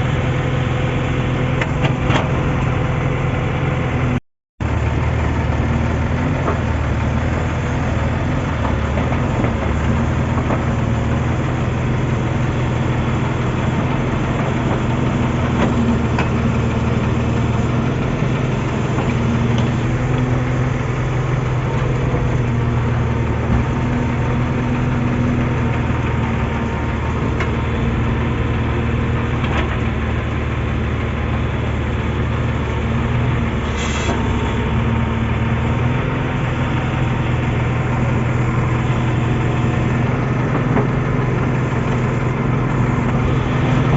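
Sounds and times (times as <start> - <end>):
heavy diesel engine droning: 0.0 - 43.9.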